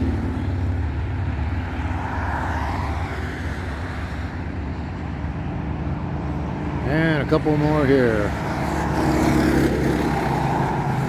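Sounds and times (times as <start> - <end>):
motorcycles and cars passing: 0.0 - 11.0.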